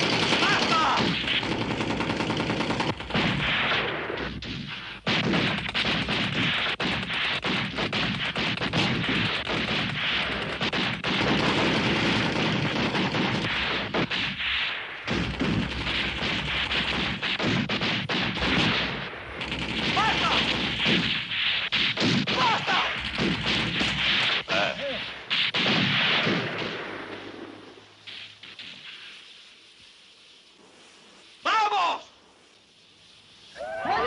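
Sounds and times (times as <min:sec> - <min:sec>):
heavy gunfire: 0:00.0 - 0:28.8.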